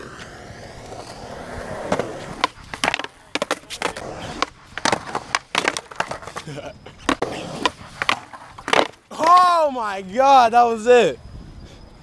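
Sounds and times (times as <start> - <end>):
skateboards clacking on concrete: 0.0 - 10.0
skateboard wheels rolling on concrete: 0.0 - 10.9.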